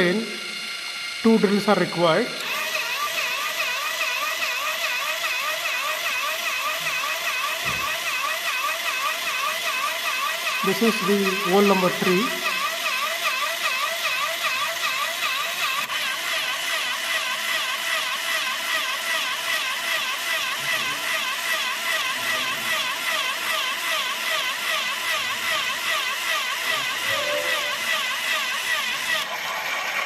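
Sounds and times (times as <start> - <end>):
small drill motor whining: 0.0 - 30.0.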